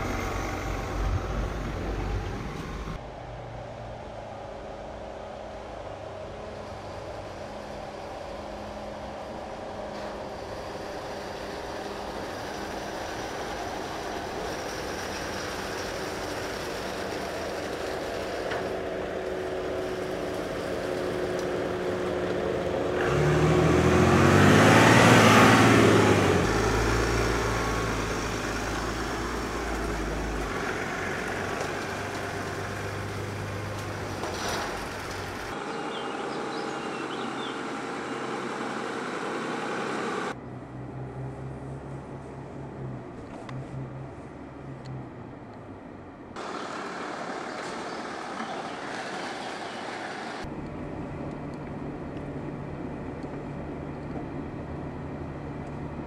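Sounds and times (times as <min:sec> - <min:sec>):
suv engine running at low speed: 0:00.0 - 0:56.0.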